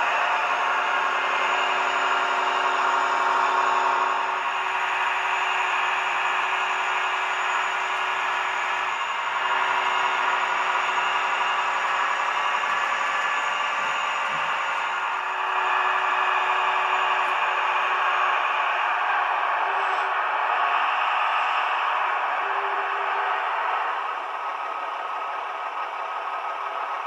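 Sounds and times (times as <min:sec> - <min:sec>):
diesel engine sound from small speaker: 0:00.0 - 0:27.0.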